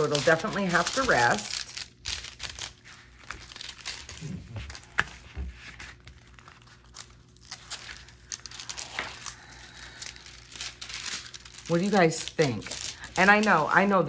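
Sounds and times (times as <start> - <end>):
plastic film crinkling: 0.0 - 14.0.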